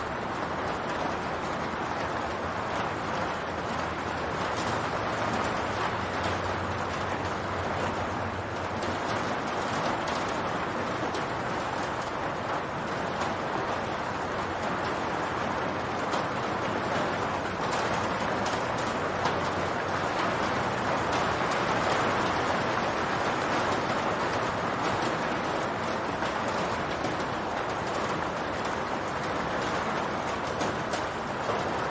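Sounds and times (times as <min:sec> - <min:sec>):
rain on a roof: 0:00.0 - 0:31.9
raindrop clicks: 0:00.0 - 0:31.9.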